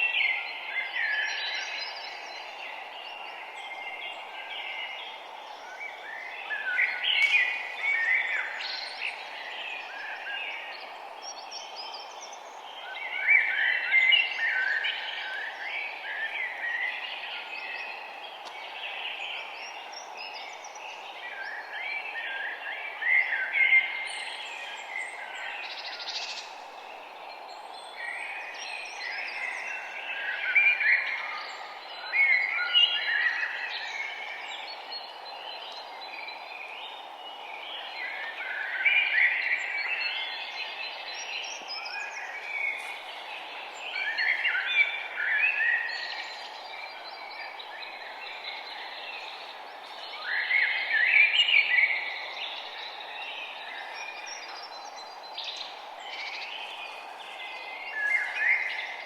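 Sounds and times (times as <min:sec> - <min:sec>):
background hiss: 0:00.0 - 0:59.0
songbirds singing: 0:00.0 - 0:59.0.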